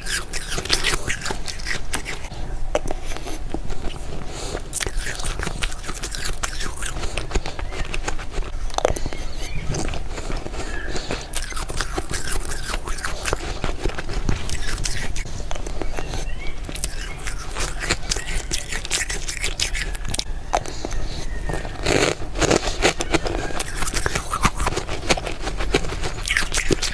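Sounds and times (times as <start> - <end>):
crunchy chewing of frost: 0.0 - 26.9.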